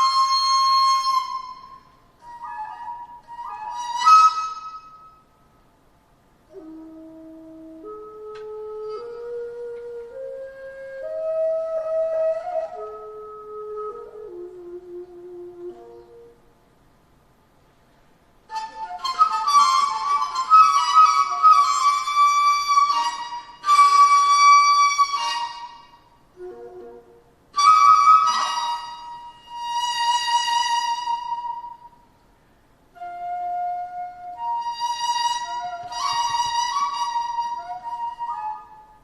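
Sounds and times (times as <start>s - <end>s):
traditional ensemble: 0.0s - 5.2s, 5.8s - 16.4s, 18.4s - 32.0s, 32.9s - 39.0s
bamboo flute long held notes: 0.0s - 5.7s, 6.4s - 16.5s, 18.5s - 32.2s, 32.9s - 39.0s.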